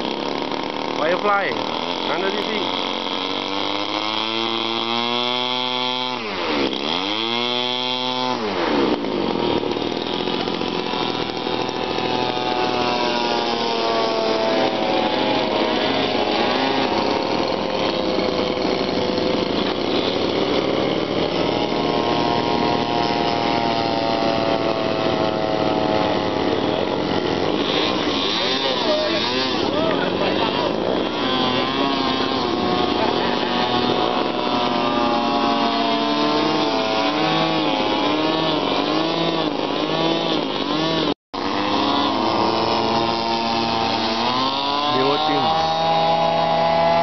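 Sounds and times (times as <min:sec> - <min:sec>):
model airplane engine buzzing: 0:00.0 - 0:47.0.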